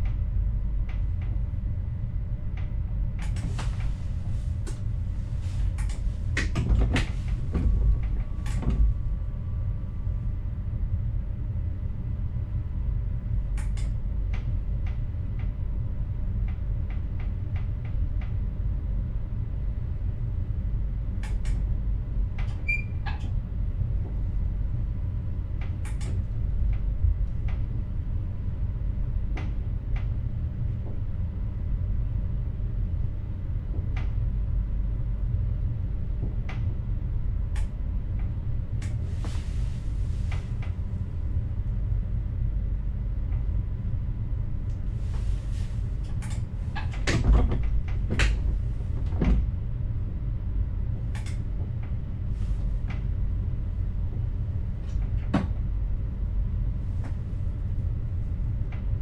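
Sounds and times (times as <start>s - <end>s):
train cab rumble: 0.0s - 59.0s.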